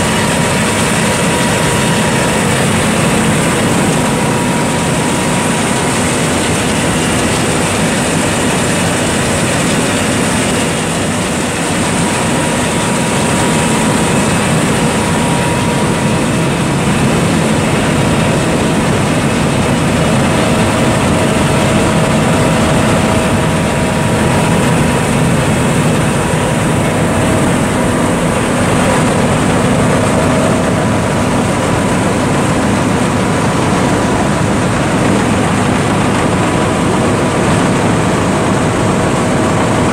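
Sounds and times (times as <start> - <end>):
combine mechanical drone: 0.0 - 39.9
faint steady whines: 0.0 - 39.9.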